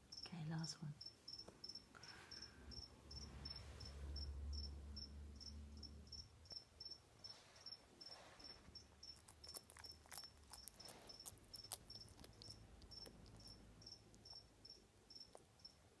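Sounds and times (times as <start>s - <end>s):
cricket chirping: 0.0s - 0.3s, 1.0s - 16.0s.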